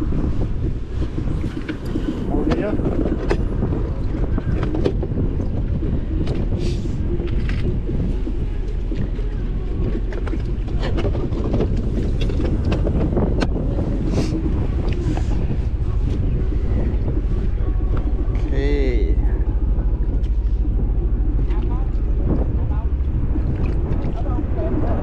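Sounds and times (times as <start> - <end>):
steady low rumble: 0.0 - 25.0
wind buffeting microphone: 0.0 - 25.0.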